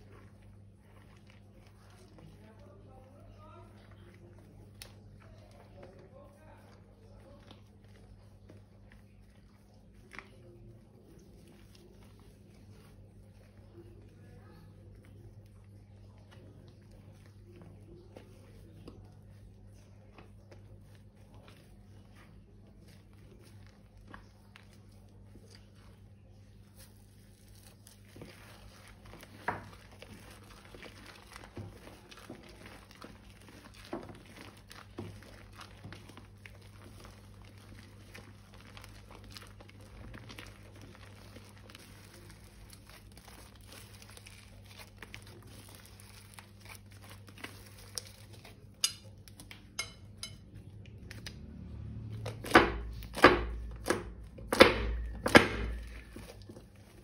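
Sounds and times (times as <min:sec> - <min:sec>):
plastic crinkling: 0:00.0 - 0:49.7, 0:52.8 - 0:57.0.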